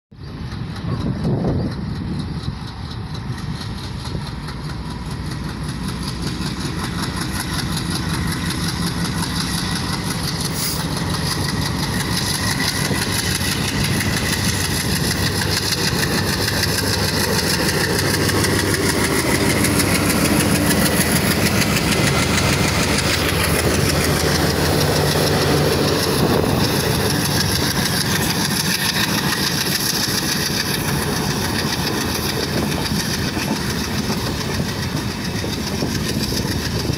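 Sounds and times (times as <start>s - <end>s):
diesel locomotive engine running: 0.1s - 36.9s.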